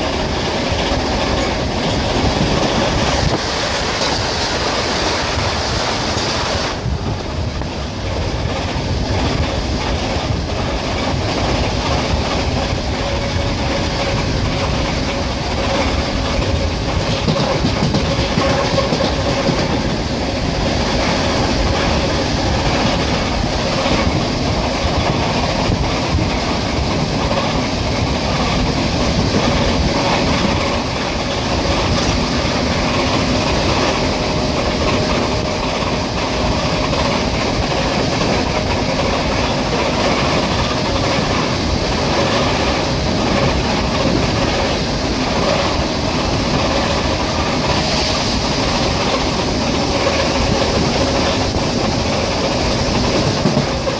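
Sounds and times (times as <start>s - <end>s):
electric train running: 0.0s - 53.9s
wheels clacking over rail joints: 0.0s - 53.9s.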